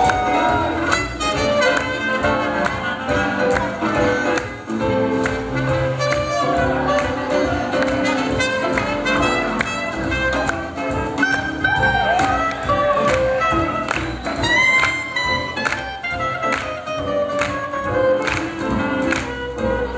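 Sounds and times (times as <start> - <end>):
swing jazz band playing: 0.0 - 19.9.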